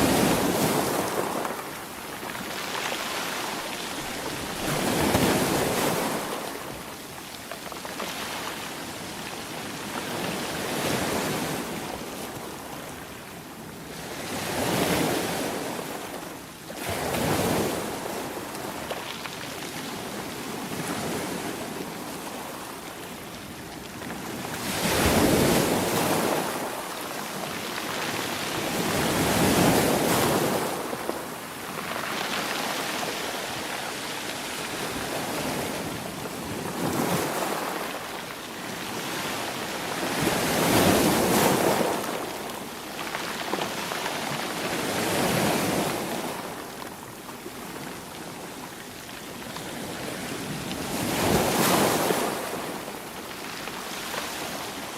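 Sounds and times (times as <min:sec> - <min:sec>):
ocean waves breaking on shore: 0:00.0 - 0:54.9.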